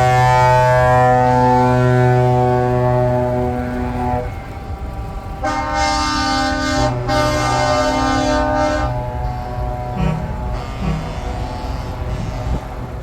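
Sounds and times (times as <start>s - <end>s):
truck air horn blasts: 0.0s - 13.0s
truck diesel engine passing: 0.0s - 13.0s.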